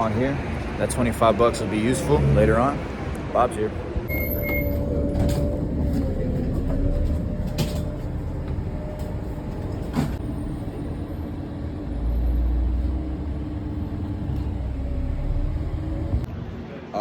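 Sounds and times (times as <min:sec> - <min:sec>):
bus engine humming: 0:00.0 - 0:16.8.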